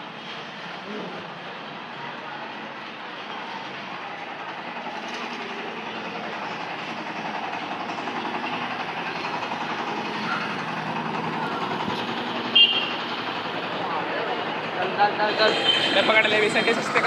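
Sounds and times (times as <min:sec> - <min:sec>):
street noise: 0:00.0 - 0:17.0
low engine-like hum: 0:02.6 - 0:17.0.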